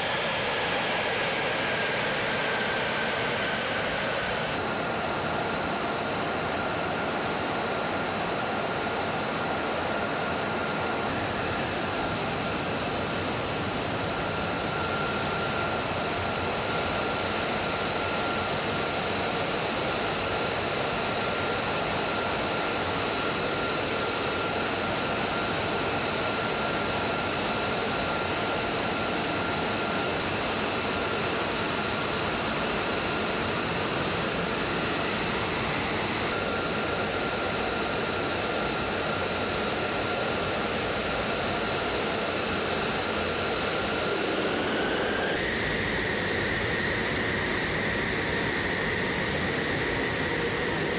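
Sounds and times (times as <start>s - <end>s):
jet engine idling with high whine: 0.0s - 50.9s.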